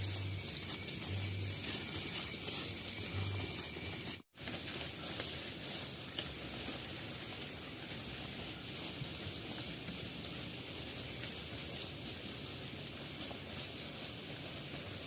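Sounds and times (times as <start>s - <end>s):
hissing outdoor background noise: 0.0s - 15.0s.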